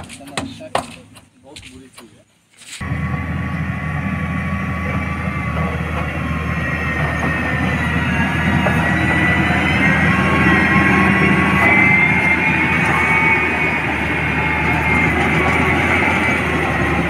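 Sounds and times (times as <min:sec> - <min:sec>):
diesel engine running under load: 0:02.8 - 0:17.0
high wavering whine: 0:02.8 - 0:17.0.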